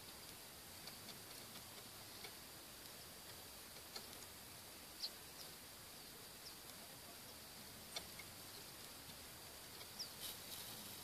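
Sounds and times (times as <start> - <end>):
quiet hiss: 0.0 - 11.0
nestlings cheeping: 0.1 - 11.0.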